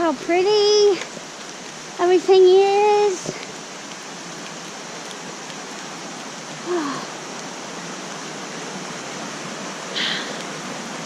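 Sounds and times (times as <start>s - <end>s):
rain and running water: 0.0s - 11.0s.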